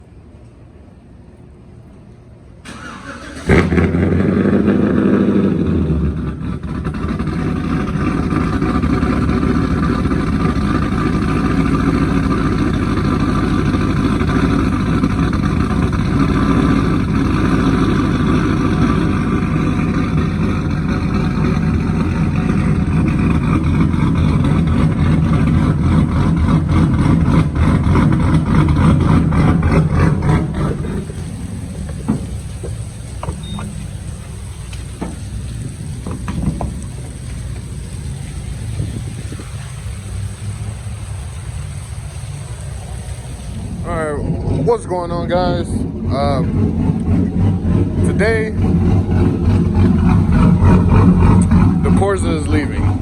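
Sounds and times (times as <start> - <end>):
truck engine starting and idling: 0.0 - 53.0
engine cranking: 2.6 - 53.0.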